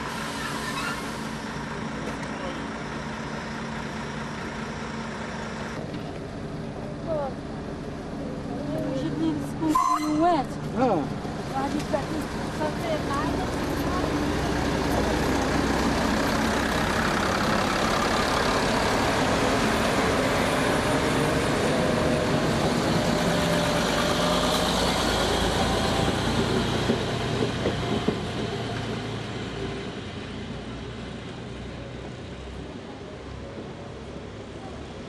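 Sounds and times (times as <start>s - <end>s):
diesel railcar engines: 0.0s - 35.0s.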